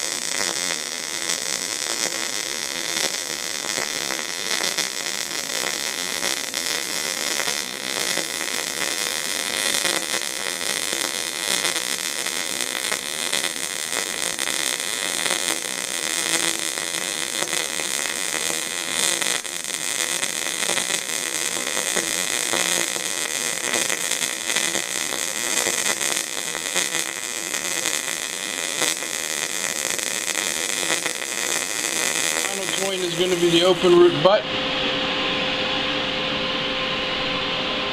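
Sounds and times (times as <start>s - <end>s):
welding arc crackling: 0.0s - 34.4s.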